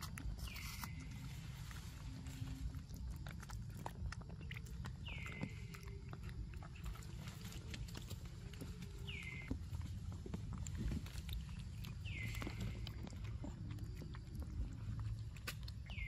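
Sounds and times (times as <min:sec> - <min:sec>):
monkeys chewing food: 0:00.0 - 0:16.0.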